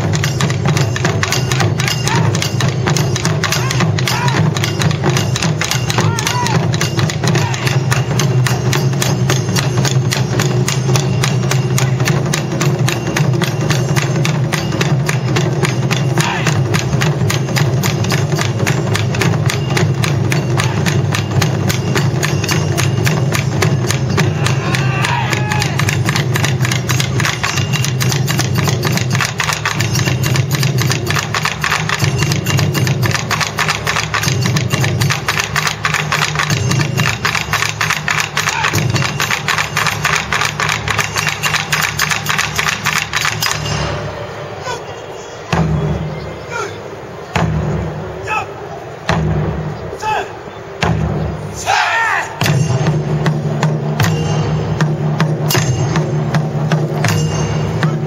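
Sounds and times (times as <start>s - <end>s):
taiko drum strokes: 0.0s - 44.8s, 45.4s - 58.0s.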